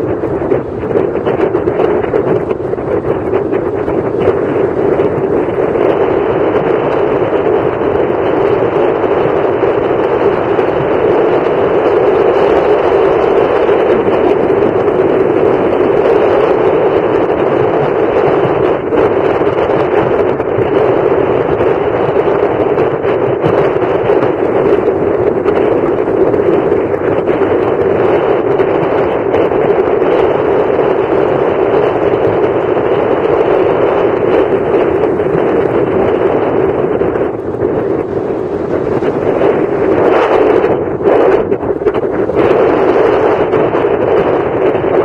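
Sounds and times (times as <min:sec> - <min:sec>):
wind on microphone: 0:00.0 - 0:45.0.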